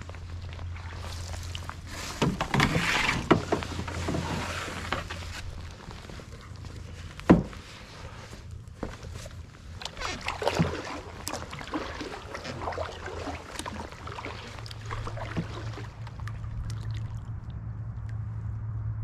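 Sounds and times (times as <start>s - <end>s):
low hum: 0.0s - 19.0s
paddle splashing in water: 0.1s - 8.4s, 9.0s - 17.4s.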